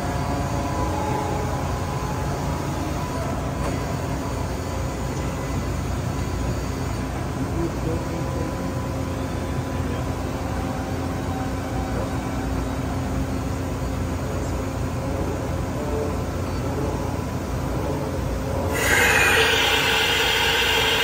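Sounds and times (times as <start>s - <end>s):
industrial machinery humming: 0.0s - 21.0s.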